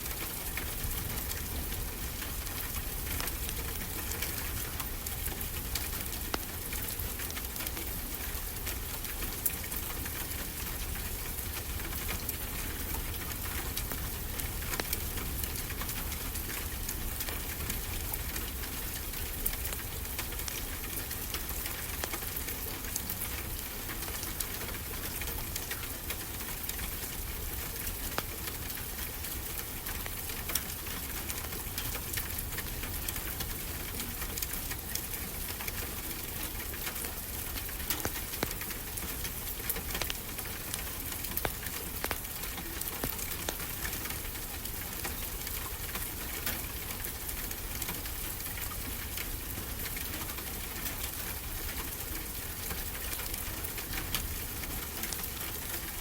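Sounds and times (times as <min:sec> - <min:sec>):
wood fire crackling and popping: 0:00.1 - 0:22.6, 0:25.4 - 0:56.0.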